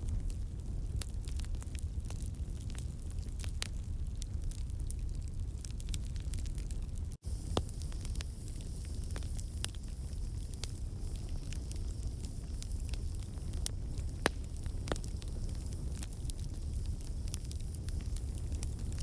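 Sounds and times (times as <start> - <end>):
campfire crackling and popping: 0.0 - 19.0
fire rumble and hiss: 0.0 - 19.0.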